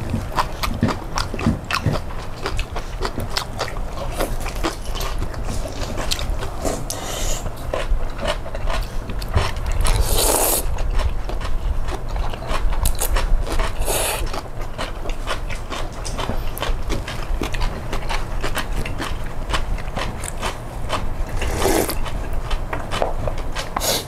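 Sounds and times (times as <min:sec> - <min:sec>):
crunchy chewing: 0:00.0 - 0:24.0.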